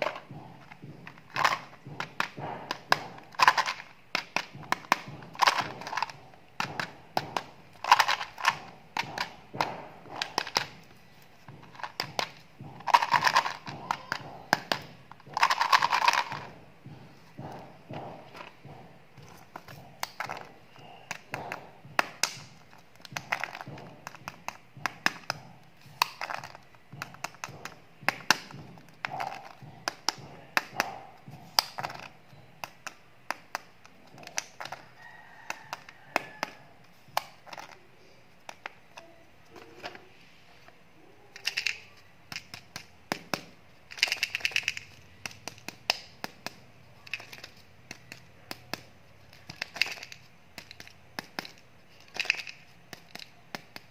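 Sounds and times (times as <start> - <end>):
plastic containers clicking: 0.0 - 53.9.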